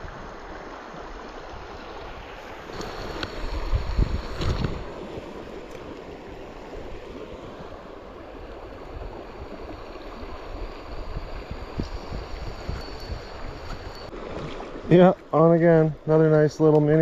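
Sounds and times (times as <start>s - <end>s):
wind rumble on microphone: 0.0s - 14.9s
creek water flowing: 0.0s - 17.0s.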